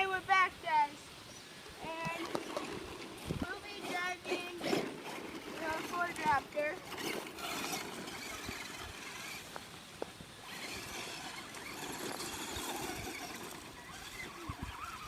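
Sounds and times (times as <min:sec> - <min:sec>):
tyres rumbling on ground: 0:01.8 - 0:15.0
electric motor whining: 0:02.0 - 0:15.0.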